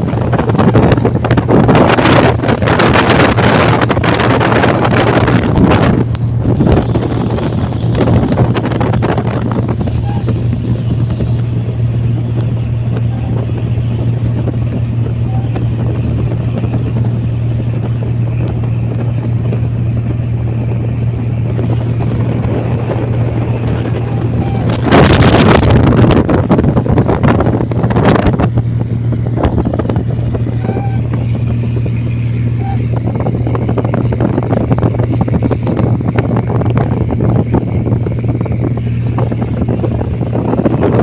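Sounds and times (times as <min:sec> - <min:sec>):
boat engine running: 0:00.0 - 0:41.0
rushing water noise: 0:00.0 - 0:41.0
wind buffeting microphone: 0:00.0 - 0:41.0.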